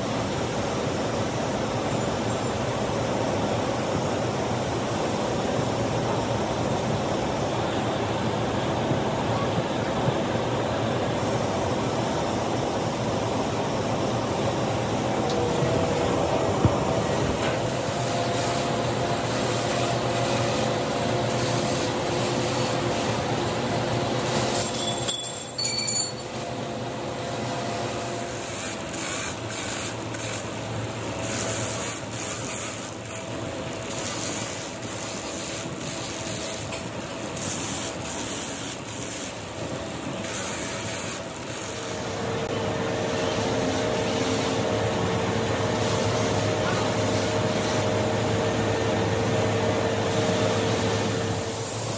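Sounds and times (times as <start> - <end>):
air buffer whining: 0.0 - 51.9.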